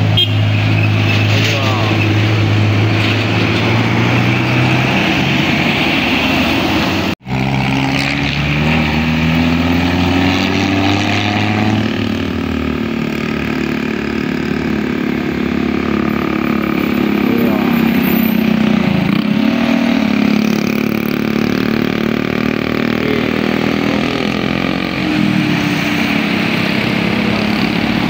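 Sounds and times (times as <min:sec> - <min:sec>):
heavy vehicle engine running: 0:00.0 - 0:10.3, 0:10.9 - 0:28.0.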